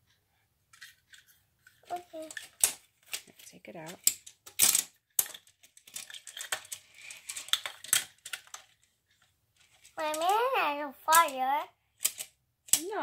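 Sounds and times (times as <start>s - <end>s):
toy cars clicking and knocking: 0.7s - 13.0s.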